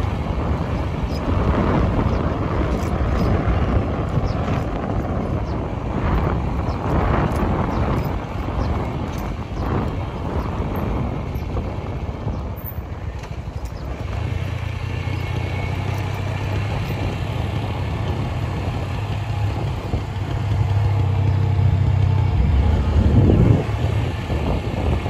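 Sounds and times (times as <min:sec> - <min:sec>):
engine running with low drone: 0:00.0 - 0:25.0.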